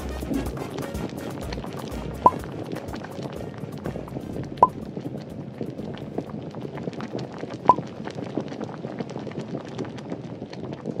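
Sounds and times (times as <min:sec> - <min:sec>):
bubbling crackling lava: 0:00.0 - 0:11.0.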